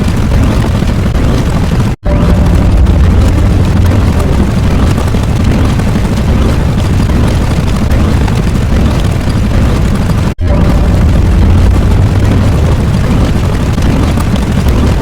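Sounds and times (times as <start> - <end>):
deep explosion roar: 0.0 - 15.0.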